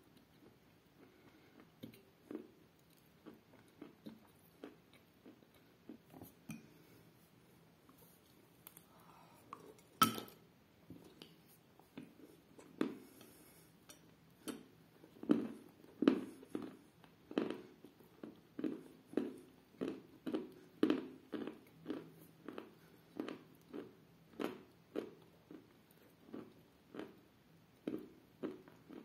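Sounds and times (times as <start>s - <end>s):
soft wet chewing: 0.0s - 29.0s.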